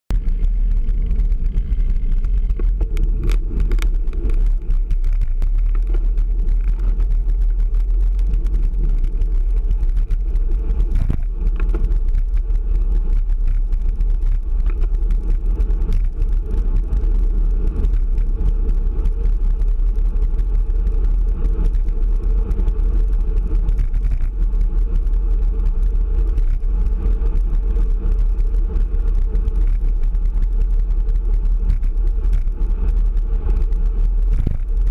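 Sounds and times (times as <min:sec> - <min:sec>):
bicycle road noise: 0:00.1 - 0:34.9
wind rumble on microphone: 0:00.1 - 0:34.9.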